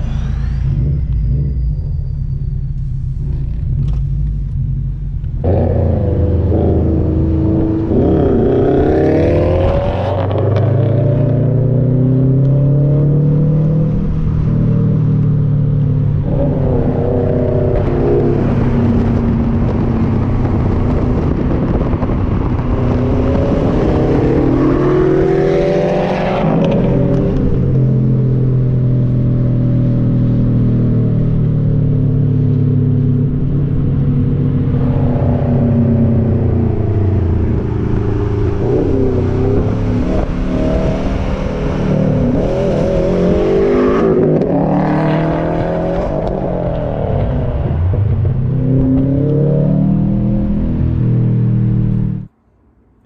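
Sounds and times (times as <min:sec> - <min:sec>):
car engine accelerating hard: 0:00.0 - 0:52.3.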